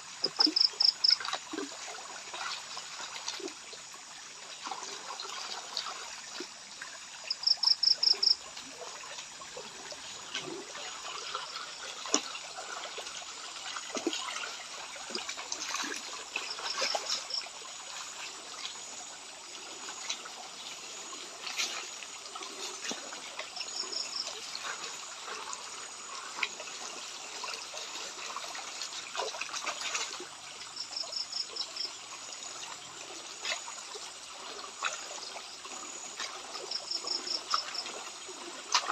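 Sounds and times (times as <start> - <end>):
water trickling and sloshing: 0.0 - 38.9.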